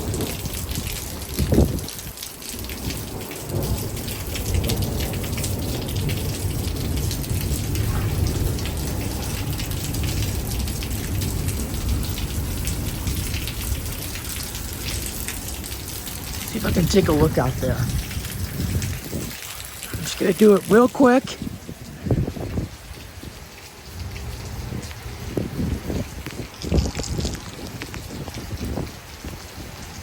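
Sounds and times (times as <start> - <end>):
low rumble of thunder: 0.0 - 19.8, 21.4 - 30.0
gusting wind: 0.0 - 30.0
heavy rain pouring: 0.0 - 30.0.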